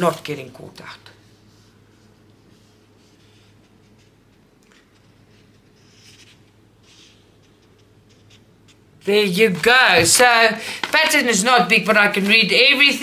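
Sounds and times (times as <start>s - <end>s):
low steady hum: 0.0s - 13.0s
paper rustling: 1.3s - 13.0s.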